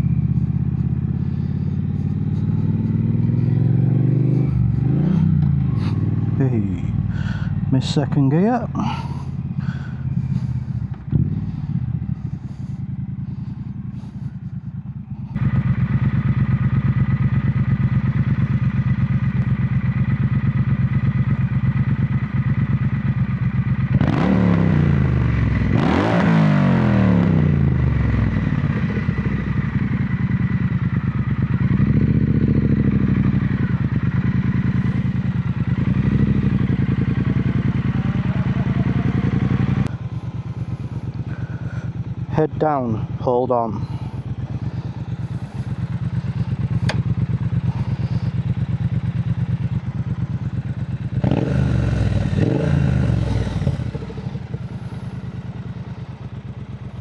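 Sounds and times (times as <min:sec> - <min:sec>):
motorcycle engine on the road: 0:00.0 - 0:57.0.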